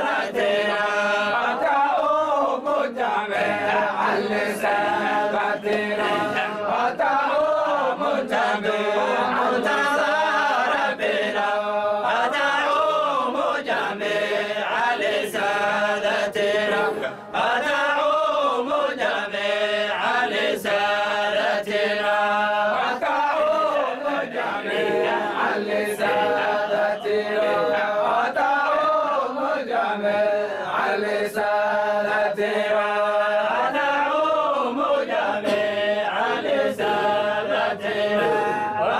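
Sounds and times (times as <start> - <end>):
men chanting together: 0.0 - 38.9.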